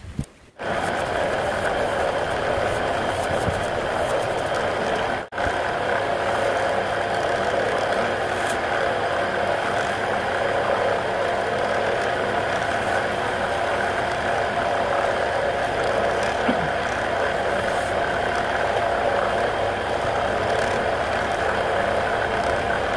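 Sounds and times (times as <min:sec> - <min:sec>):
wood lathe running: 0:00.6 - 0:22.9.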